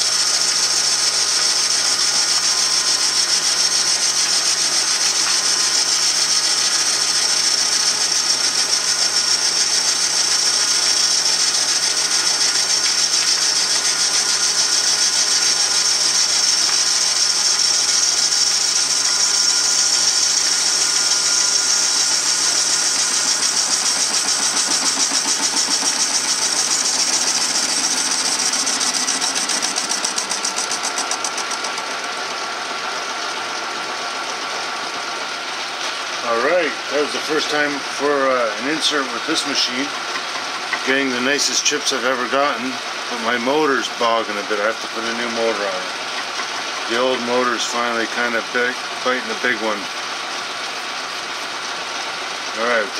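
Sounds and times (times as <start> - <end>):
lathe motor running: 0.0 - 52.9
metal lathe cutting hiss: 0.0 - 52.9.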